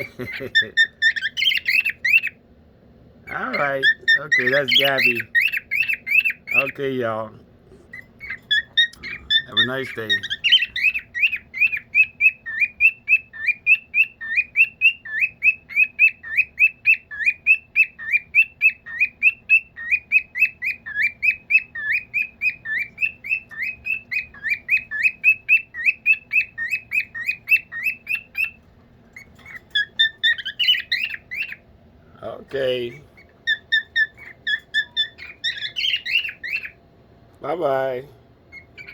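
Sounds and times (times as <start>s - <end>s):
bird chirping: 0.0s - 2.5s, 3.2s - 38.9s.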